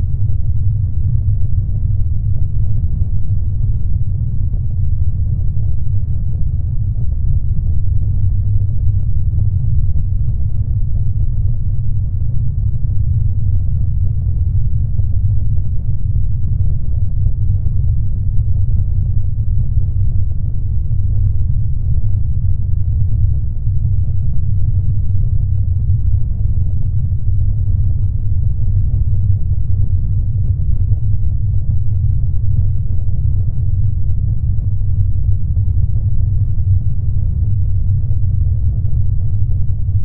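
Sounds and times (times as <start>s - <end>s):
deep ship rumble: 0.0s - 40.0s.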